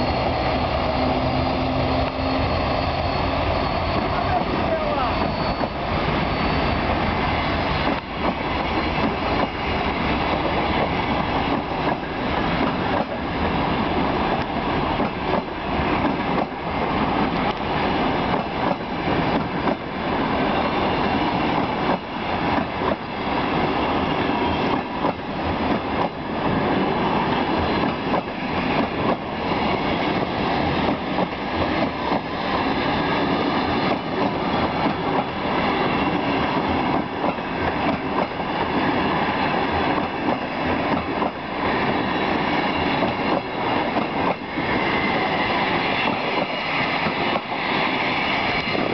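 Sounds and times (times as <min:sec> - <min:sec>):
train rumbling past: 0:00.0 - 0:48.9.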